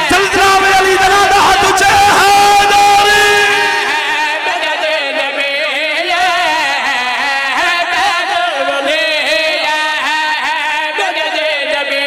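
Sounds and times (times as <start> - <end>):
man singing through microphone: 0.0 - 12.0.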